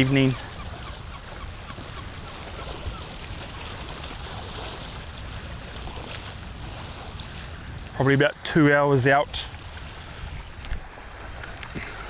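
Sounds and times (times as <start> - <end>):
waves washing against rocks: 1.6 - 12.0.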